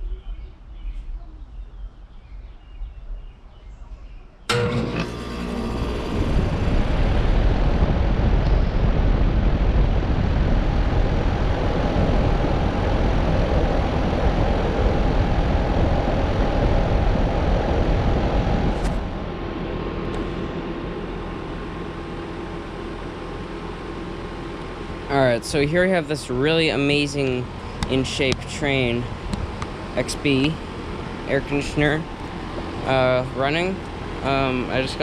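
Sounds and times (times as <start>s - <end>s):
air conditioner running: 0.0s - 35.0s.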